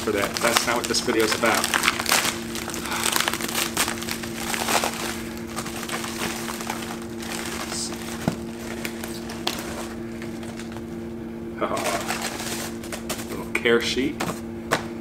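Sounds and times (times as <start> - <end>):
plastic mailer crinkling: 0.0 - 11.0, 11.6 - 13.5.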